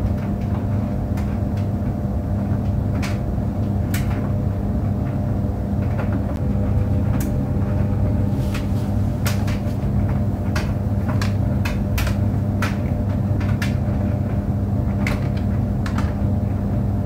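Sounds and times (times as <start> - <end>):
clicks and knocks in dryer drum: 0.0 - 17.0
clothes dryer humming: 0.0 - 17.0.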